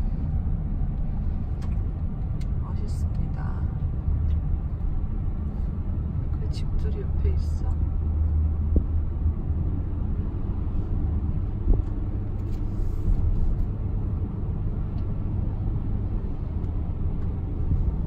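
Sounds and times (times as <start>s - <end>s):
road and engine rumble in car: 0.0s - 18.0s.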